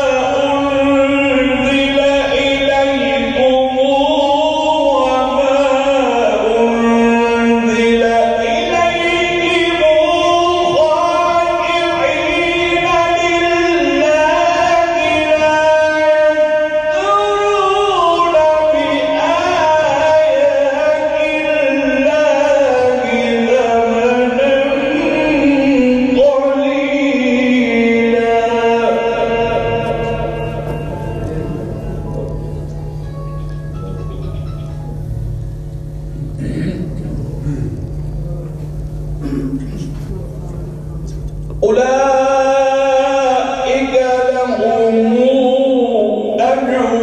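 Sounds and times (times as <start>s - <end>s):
person chanting melodically: 0.0s - 38.3s, 41.5s - 47.0s.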